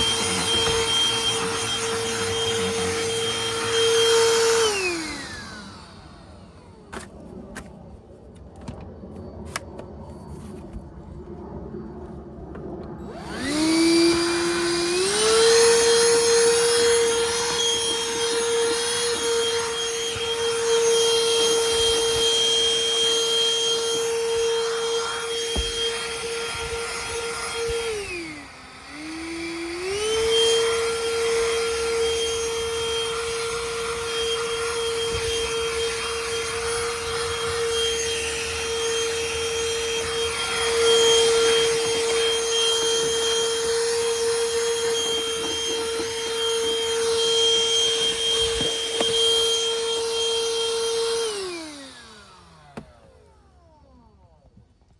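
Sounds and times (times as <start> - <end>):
handheld vacuum motor whine: 0.0 - 54.9.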